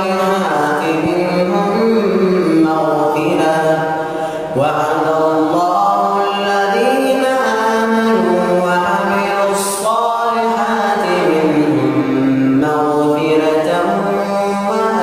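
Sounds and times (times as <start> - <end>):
person chanting recitation: 0.0 - 15.0.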